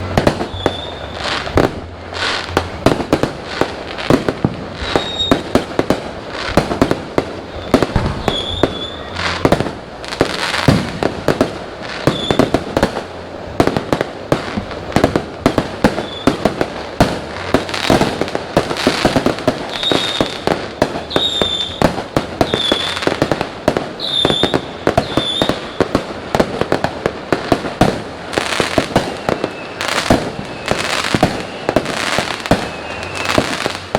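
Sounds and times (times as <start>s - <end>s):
fireworks bangs and crackles: 0.0s - 33.9s
fireworks whistles: 0.0s - 33.9s.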